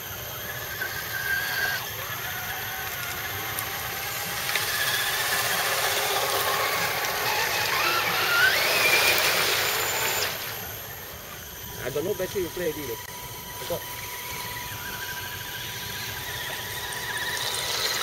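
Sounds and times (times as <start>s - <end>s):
electric motor and gears whining: 0.0s - 18.0s.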